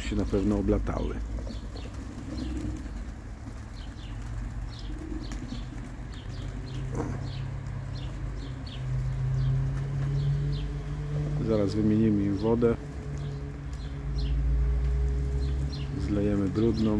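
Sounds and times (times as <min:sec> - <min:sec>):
pigeons cooing: 0:00.0 - 0:16.9
pigeon wings flapping: 0:00.2 - 0:10.5, 0:12.3 - 0:16.9.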